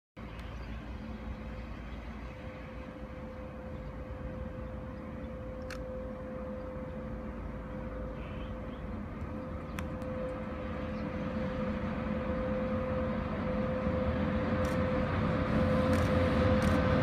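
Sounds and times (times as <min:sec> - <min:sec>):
distant electric locomotive rumbling: 0:00.2 - 0:17.0
steady hum: 0:00.3 - 0:17.0.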